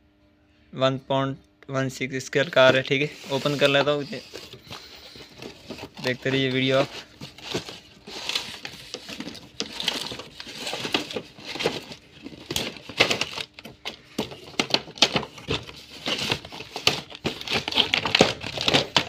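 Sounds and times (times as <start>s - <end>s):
plastic crinkling and rustling: 2.4s - 19.0s
cardboard flap scraping and knocking: 2.5s - 19.0s.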